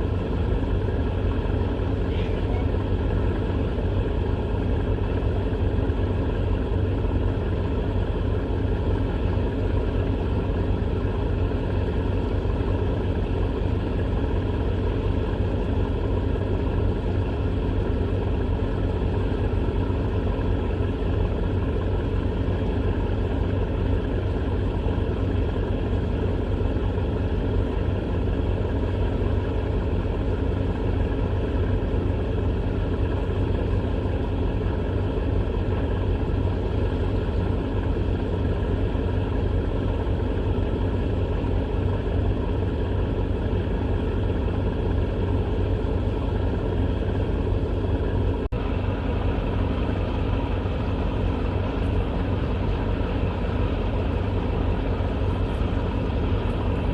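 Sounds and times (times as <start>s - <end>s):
steady low rumble and hum: 0.0s - 56.9s.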